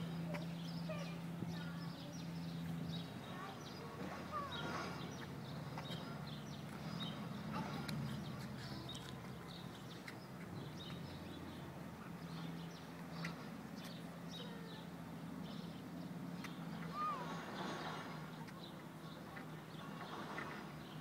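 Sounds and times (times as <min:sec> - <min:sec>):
low outdoor background hum: 0:00.0 - 0:21.0
small birds chirping: 0:00.0 - 0:21.0.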